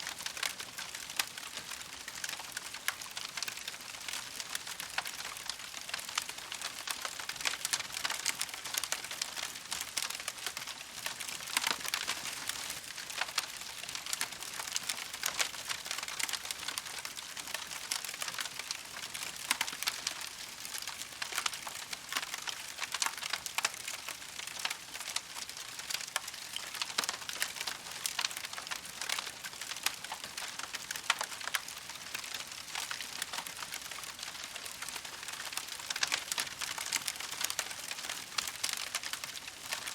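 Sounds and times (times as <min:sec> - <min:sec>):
campfire crackling: 0:00.3 - 0:39.9.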